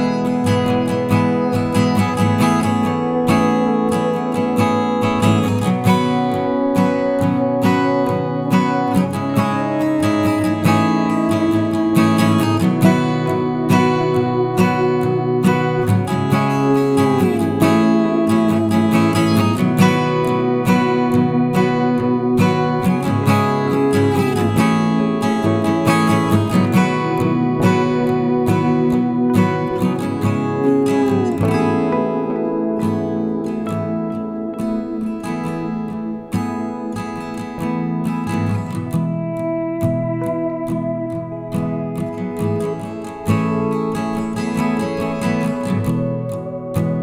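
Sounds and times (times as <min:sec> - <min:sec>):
acoustic guitar music: 0:00.0 - 0:47.0.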